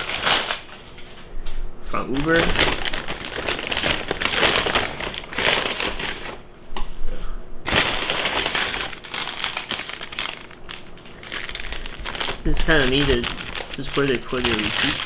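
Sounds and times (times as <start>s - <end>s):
paper bag crinkling: 0.0s - 1.0s, 2.1s - 6.4s, 7.7s - 15.0s.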